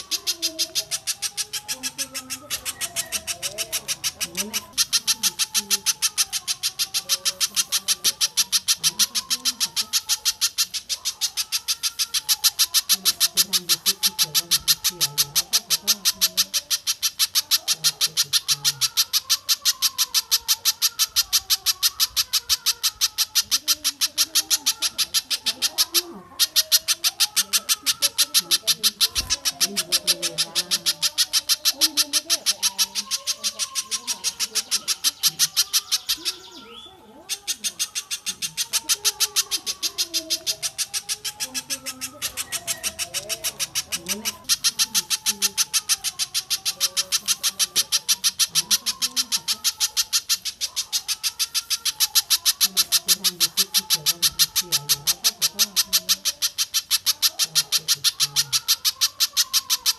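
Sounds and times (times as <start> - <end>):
wavering lower bird notes: 0.0 - 57.1
sharp high bird chips: 0.0 - 59.9.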